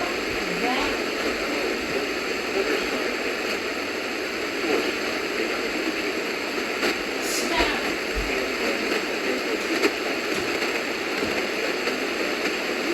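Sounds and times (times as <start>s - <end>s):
radio static hiss: 0.0s - 12.9s.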